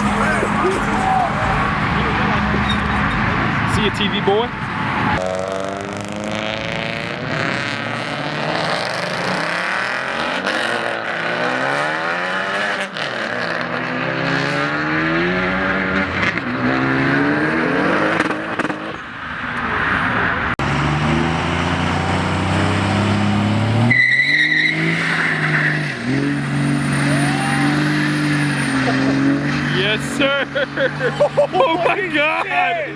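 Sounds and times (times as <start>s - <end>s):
car engines revving: 0.0s - 32.9s.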